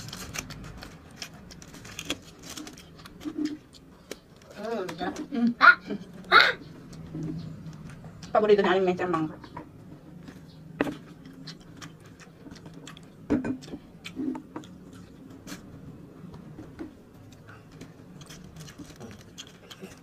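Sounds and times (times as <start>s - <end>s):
chewing crispy food: 0.0s - 8.5s, 9.6s - 20.0s.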